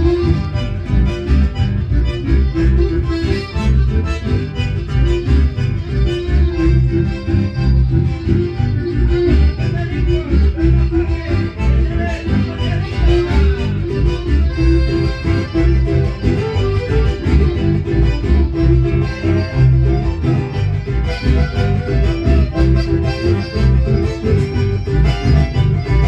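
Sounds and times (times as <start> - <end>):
band playing dance music: 0.0 - 26.0
pulsing bass beat: 0.0 - 26.0.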